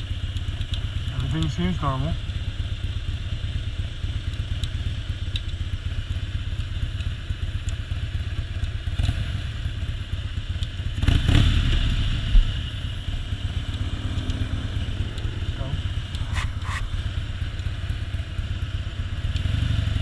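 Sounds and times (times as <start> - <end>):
motorcycle idling: 0.0 - 20.0.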